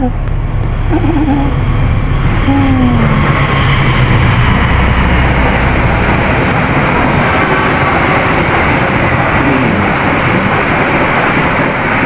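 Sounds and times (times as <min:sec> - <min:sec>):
fogging machine droning: 0:00.0 - 0:12.0.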